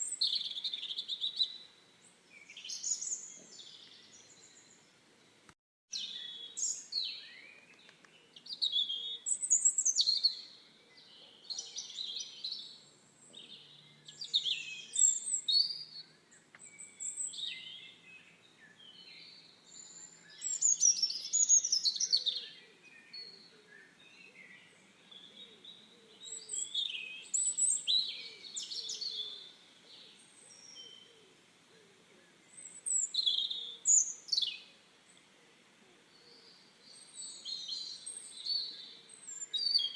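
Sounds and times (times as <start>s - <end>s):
faint steady background noise: 0.0s - 39.9s
songbirds chirping: 0.0s - 39.9s.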